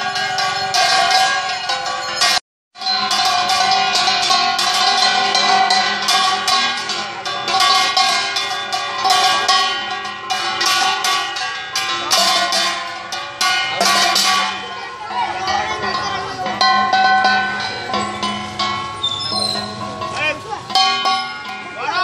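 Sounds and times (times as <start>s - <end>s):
metal percussion clanging: 0.0s - 22.0s.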